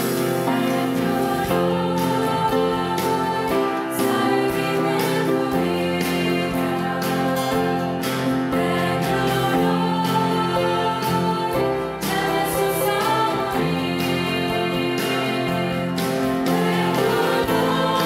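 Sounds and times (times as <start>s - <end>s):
choir singing a hymn: 0.0s - 18.0s
guitars: 0.0s - 18.0s
piano: 0.0s - 18.0s.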